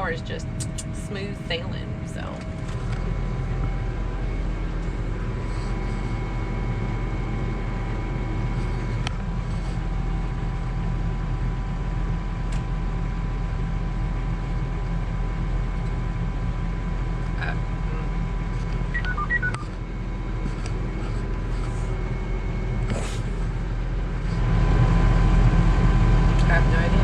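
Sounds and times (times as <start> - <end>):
tractor engine rumbling: 0.0 - 11.2, 15.5 - 27.0
thin steady whine: 0.0 - 27.0.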